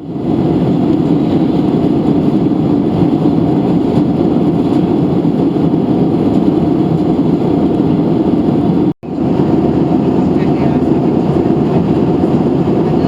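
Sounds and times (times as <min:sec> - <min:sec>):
airplane cabin engine rush: 0:00.0 - 0:13.0.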